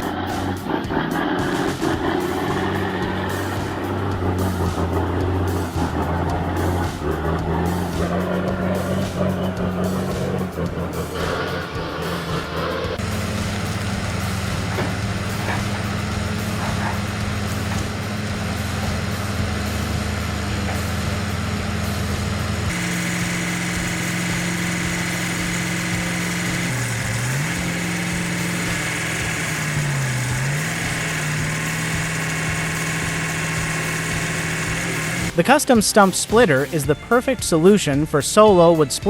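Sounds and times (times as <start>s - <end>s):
heavy machinery engines running: 0.0s - 39.0s.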